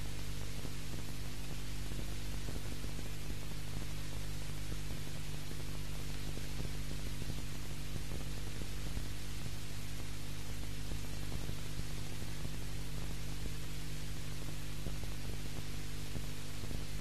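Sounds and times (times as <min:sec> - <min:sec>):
low electrical hum: 0:00.0 - 0:17.0
steady tape hiss: 0:00.0 - 0:17.0.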